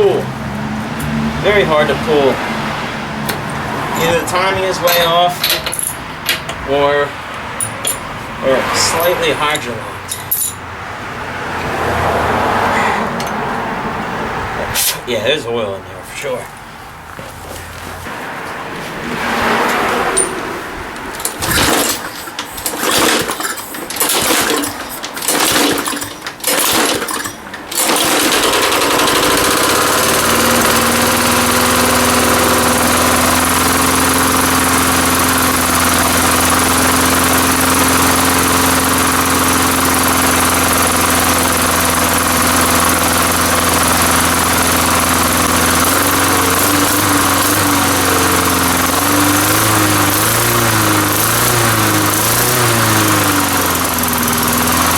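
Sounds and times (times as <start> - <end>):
lawn mower engine starting and running: 0.0 - 15.1, 16.1 - 54.9.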